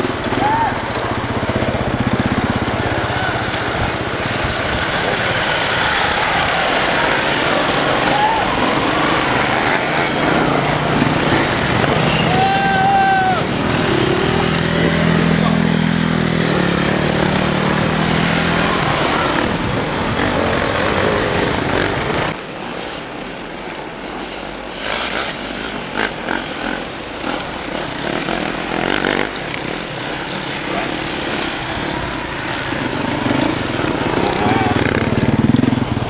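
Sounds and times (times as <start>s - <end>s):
distant dirt bikes revving: 0.0s - 22.4s, 24.7s - 36.0s
dirt bikes revving: 0.0s - 36.0s.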